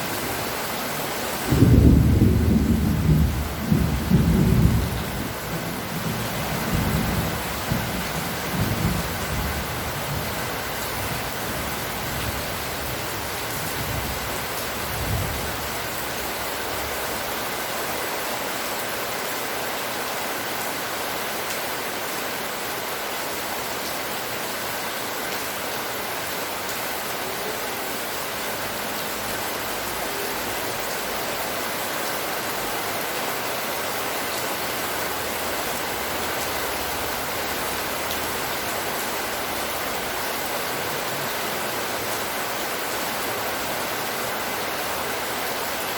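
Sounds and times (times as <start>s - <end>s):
rain pouring: 0.0s - 45.9s.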